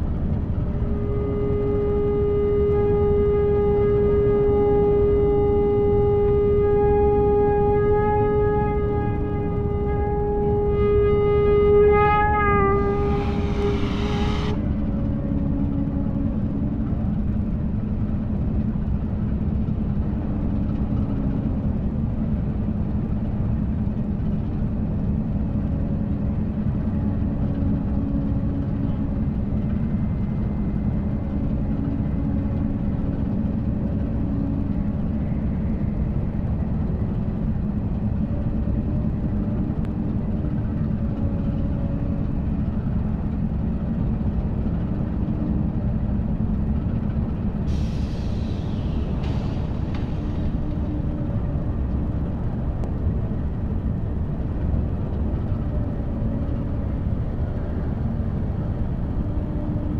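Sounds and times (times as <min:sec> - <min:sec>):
faint hum tones: 0:00.0 - 0:59.9.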